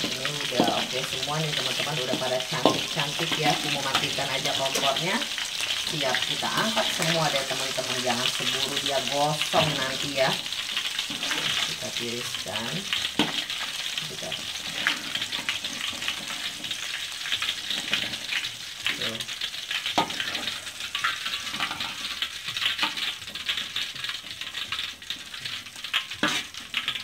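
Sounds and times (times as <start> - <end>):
metal utensils clinking on pan: 0.0 - 27.0
shrimp sizzling in hot oil: 0.0 - 27.0.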